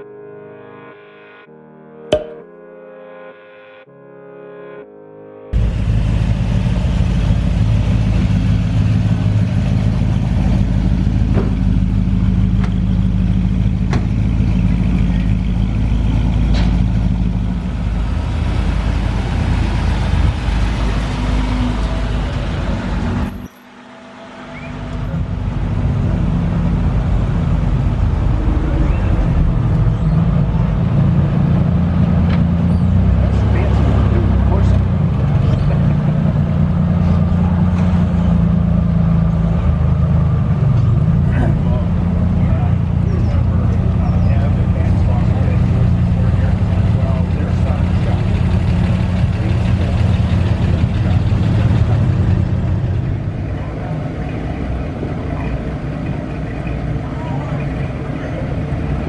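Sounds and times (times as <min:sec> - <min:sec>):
car engines rumbling: 0:05.6 - 0:59.0.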